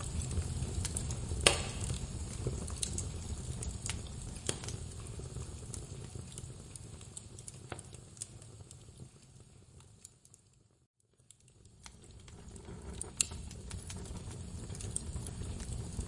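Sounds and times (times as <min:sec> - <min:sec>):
low rumble of flame: 0:00.0 - 0:16.0
wood fire crackling: 0:00.0 - 0:16.0.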